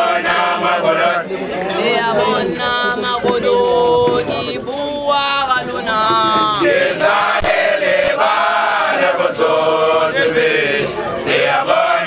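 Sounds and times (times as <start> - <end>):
group singing a chant: 0.0 - 12.0.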